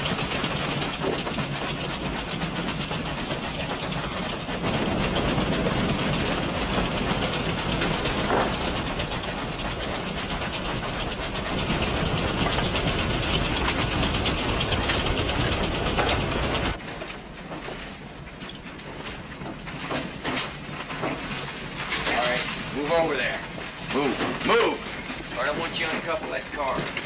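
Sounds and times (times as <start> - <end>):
train wheels clattering on rails: 0.0 - 27.0.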